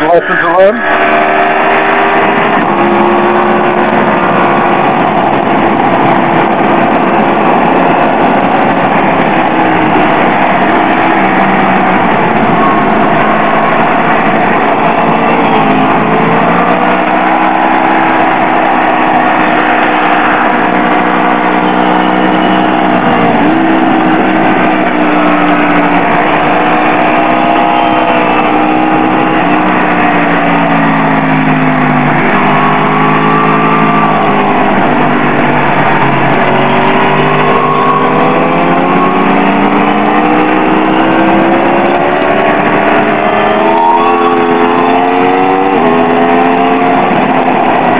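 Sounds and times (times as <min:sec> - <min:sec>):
motorcycle engine revving: 0:00.0 - 0:47.9
rushing wind: 0:00.0 - 0:47.9.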